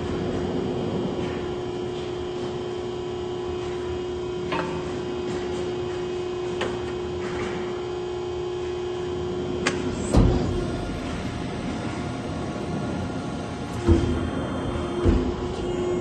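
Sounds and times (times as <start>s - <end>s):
hydraulic pump humming: 0.0s - 16.0s.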